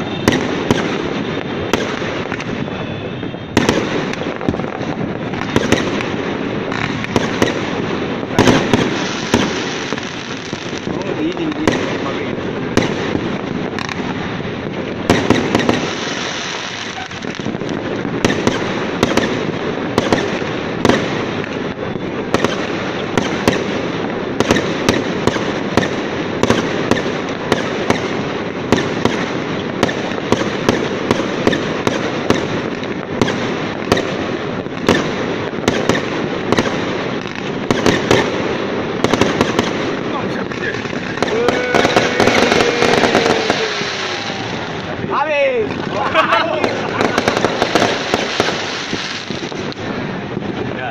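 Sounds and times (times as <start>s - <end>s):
continuous fireworks barrage noise: 0.0s - 50.9s
fireworks bursting with sharp bangs: 0.0s - 50.9s.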